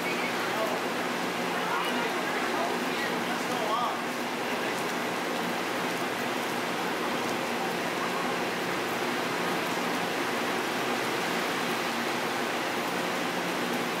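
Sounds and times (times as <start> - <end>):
heavy pouring rain: 0.0 - 14.0.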